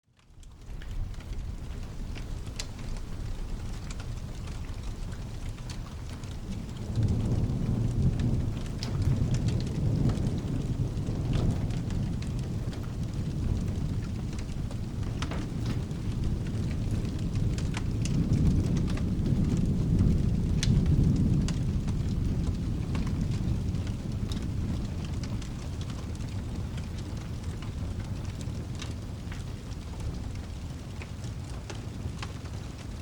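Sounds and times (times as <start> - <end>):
steady rain: 0.0 - 33.0
fire crackling and popping: 0.1 - 33.0
rolling thunder rumble: 0.2 - 33.0.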